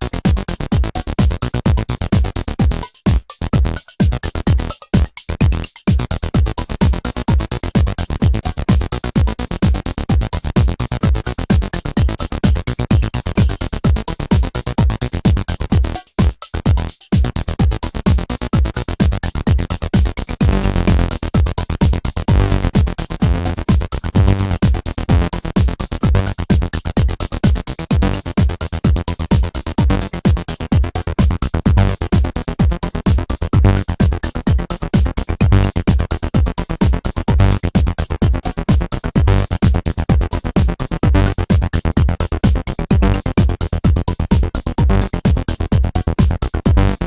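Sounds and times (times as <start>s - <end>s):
fast electronic percussion: 0.0s - 47.0s
kick drum beat: 0.0s - 47.0s
synthesizer bass line: 0.0s - 47.0s.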